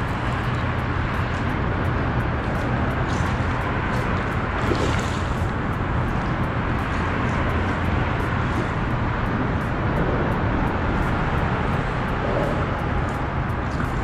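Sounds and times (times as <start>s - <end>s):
road traffic rumble and hiss: 0.0s - 14.0s.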